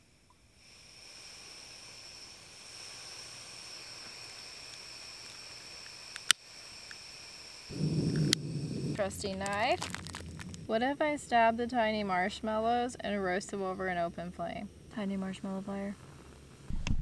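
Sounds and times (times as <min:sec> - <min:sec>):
gas hissing from camping stove: 0:00.4 - 0:16.7.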